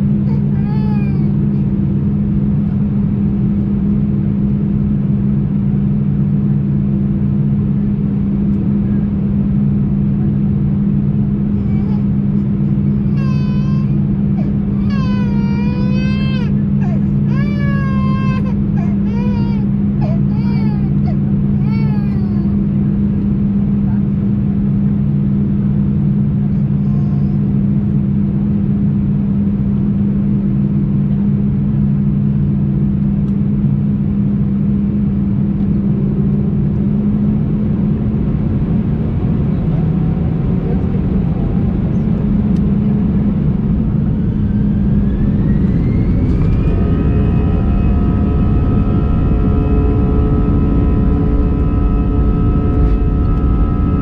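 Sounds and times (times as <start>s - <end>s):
jet engines whining: 0.0s - 26.8s, 27.4s - 54.0s
jet engines humming in cabin: 0.0s - 54.0s.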